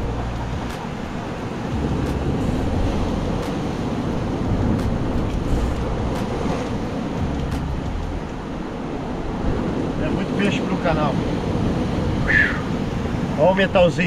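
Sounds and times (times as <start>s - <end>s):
sea surf on rocks: 0.0s - 14.0s
wind buffeting microphone: 0.0s - 14.0s.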